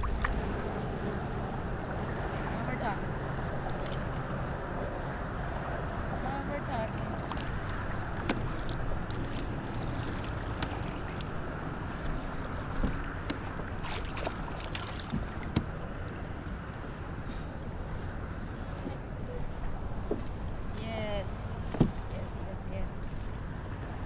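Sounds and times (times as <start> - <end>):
water noise: 0.0 - 22.6
wind: 0.0 - 24.0.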